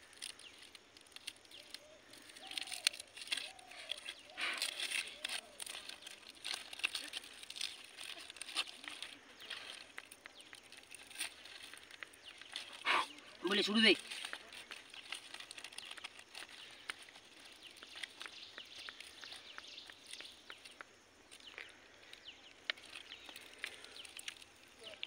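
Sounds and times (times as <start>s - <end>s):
burnt husk crackling: 0.0s - 25.0s.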